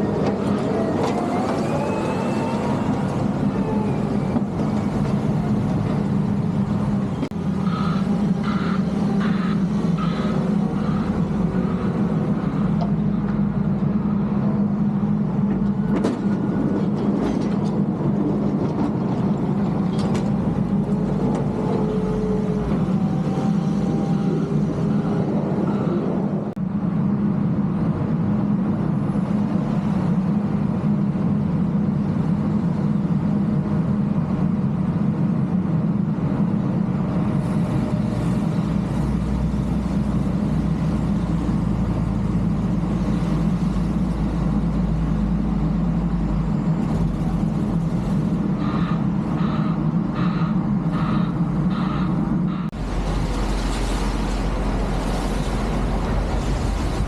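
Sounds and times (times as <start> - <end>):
snow removal machine engine drone: 0.0 - 26.1, 26.7 - 57.0.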